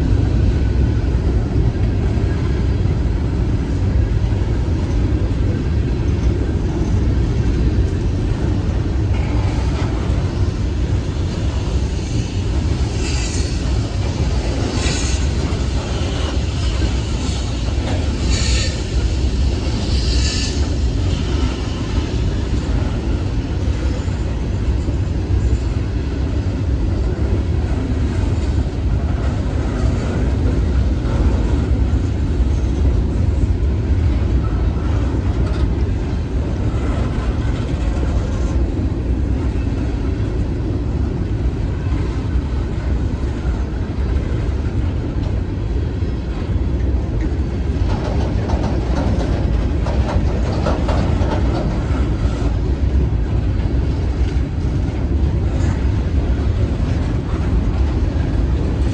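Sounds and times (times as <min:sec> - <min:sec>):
sharp clatters of train: 0:00.0 - 0:58.9
train wheels rumbling on rails: 0:00.0 - 0:58.9.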